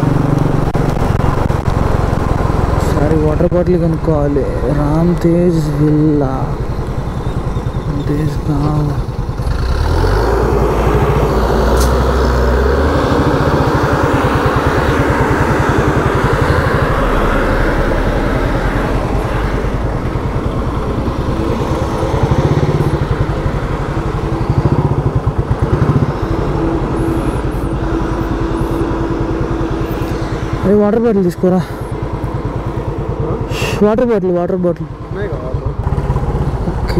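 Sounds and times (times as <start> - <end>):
motorcycle engine running: 0.0 - 36.9
road and wind noise: 0.0 - 36.9.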